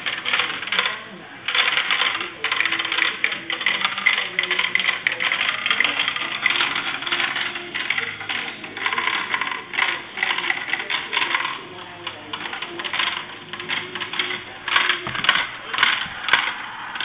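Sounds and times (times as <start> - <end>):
marbles clattering down plastic run: 0.0 - 17.0.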